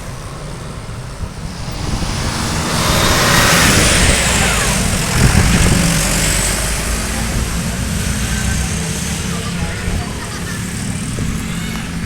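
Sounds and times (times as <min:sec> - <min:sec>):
motor vehicle passing with whine: 0:01.2 - 0:12.0.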